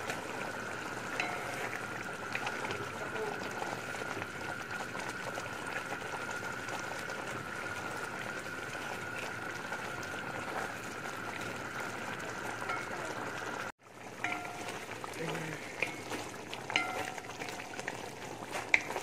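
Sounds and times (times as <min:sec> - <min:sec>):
gravy simmering and bubbling: 0:00.0 - 0:19.0.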